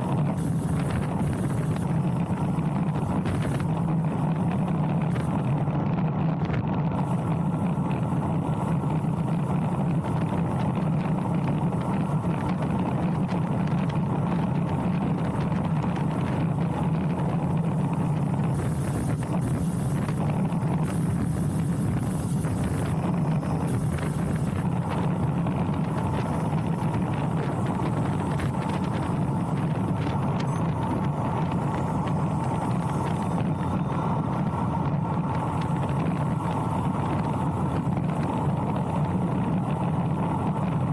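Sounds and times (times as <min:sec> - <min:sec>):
wind and tyre noise: 0:00.0 - 0:40.9
wind buffeting microphone: 0:00.0 - 0:40.9.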